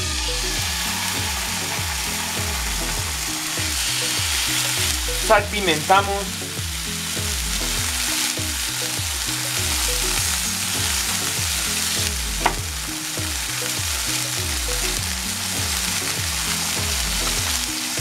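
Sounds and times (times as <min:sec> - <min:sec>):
chicken sizzling in frying pan: 0:00.0 - 0:18.0.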